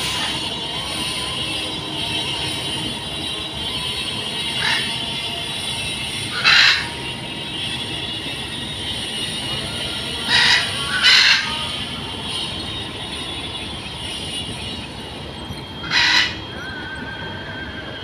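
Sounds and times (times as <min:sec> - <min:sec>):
excavator engine and hydraulics: 0:00.0 - 0:18.0
harsh screeches: 0:00.0 - 0:18.0.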